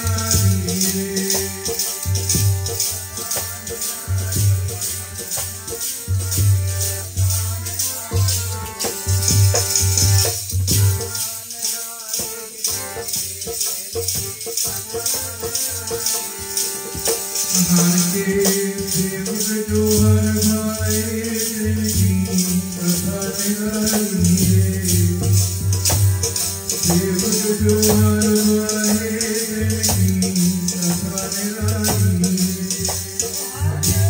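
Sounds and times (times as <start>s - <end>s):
harmonium playing a melody: 0.0s - 34.0s
shaken or struck percussion: 0.0s - 34.0s.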